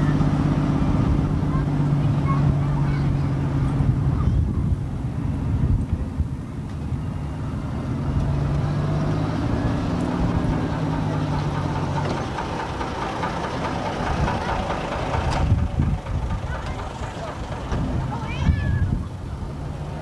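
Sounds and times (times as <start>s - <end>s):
bus engine driving past: 0.0s - 20.0s.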